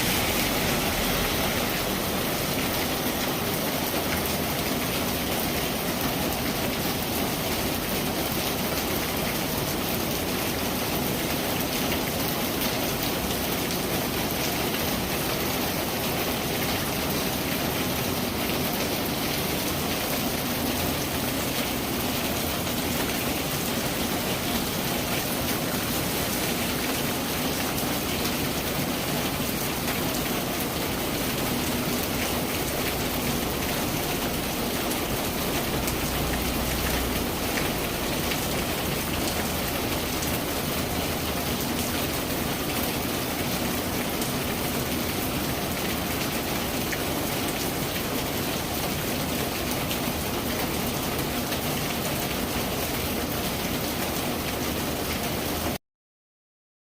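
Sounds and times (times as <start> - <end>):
steady rain falling: 0.0 - 55.8.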